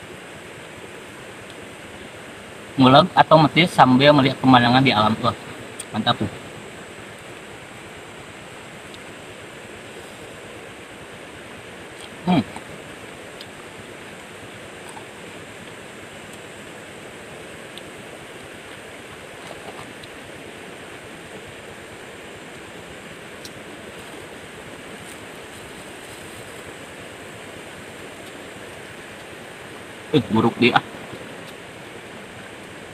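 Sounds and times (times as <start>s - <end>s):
flowing river water: 0.0s - 32.9s.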